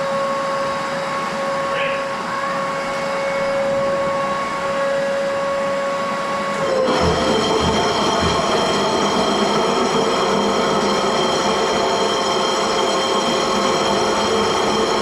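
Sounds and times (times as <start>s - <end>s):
floor grinder motor whine: 0.0s - 15.0s.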